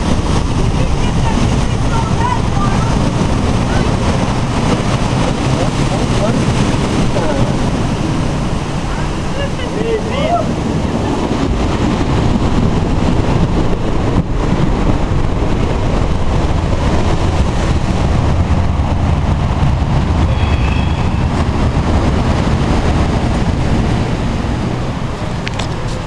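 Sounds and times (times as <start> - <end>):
surf breaking on beach: 0.0 - 26.0
wind rumbling on microphone: 0.0 - 26.0.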